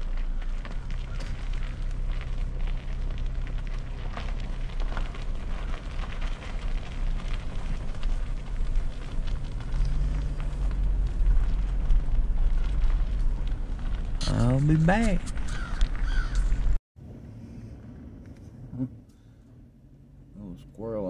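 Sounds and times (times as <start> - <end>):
tyres crackling on pavement: 0.0 - 18.8
engine and road rumble: 0.0 - 21.0.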